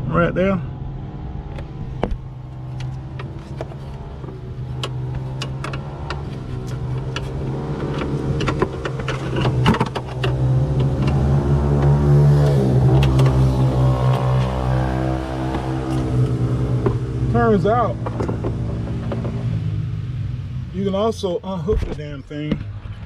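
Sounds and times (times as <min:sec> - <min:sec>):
engine-like hum: 0:00.0 - 0:23.0.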